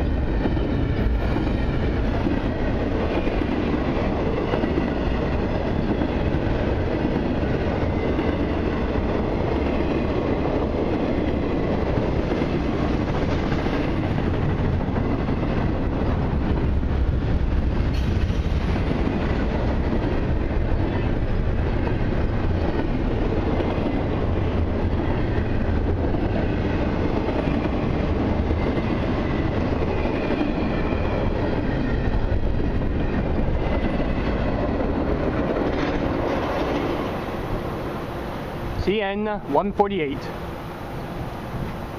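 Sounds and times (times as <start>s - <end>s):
freight train wheels rumbling on rails: 0.0s - 41.9s.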